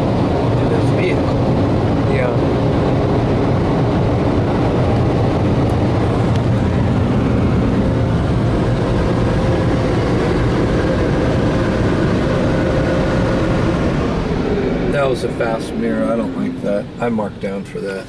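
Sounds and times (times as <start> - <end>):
car wash dryer blowers: 0.0 - 18.0
faint hum: 0.0 - 18.0.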